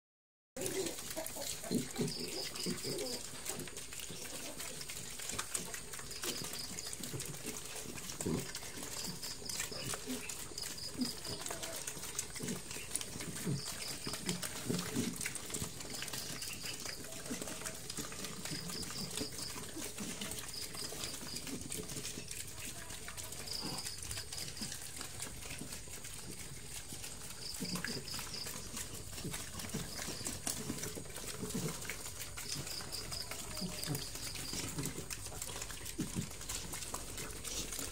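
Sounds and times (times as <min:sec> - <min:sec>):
pigs chewing and slurping: 0:00.6 - 0:37.9
pigs grunting: 0:00.6 - 0:37.9.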